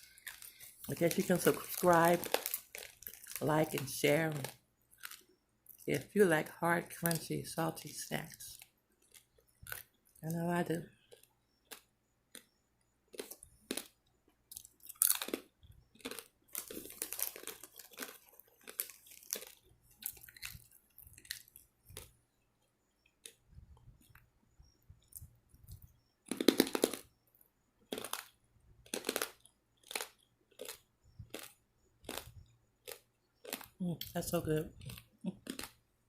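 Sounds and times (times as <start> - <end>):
crunchy food chewing: 0.0 - 6.1, 6.8 - 36.0.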